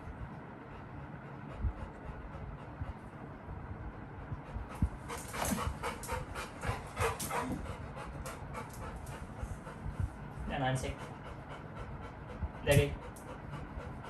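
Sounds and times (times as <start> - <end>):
puppy panting: 0.2 - 14.0.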